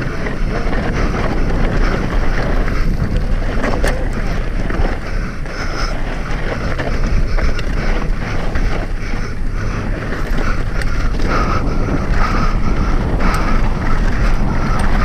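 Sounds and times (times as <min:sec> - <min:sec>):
small rattling clicks: 0:00.0 - 0:12.5, 0:13.2 - 0:15.0
wind buffeting microphone: 0:00.0 - 0:15.0.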